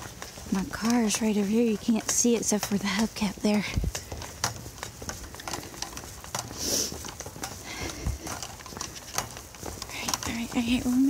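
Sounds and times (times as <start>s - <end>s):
footsteps walking: 0.0s - 11.0s.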